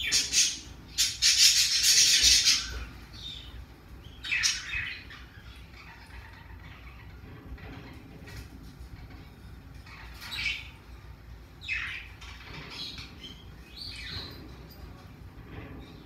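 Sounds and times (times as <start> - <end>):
parrotlet chirping: 0.0 - 8.5, 9.7 - 14.4.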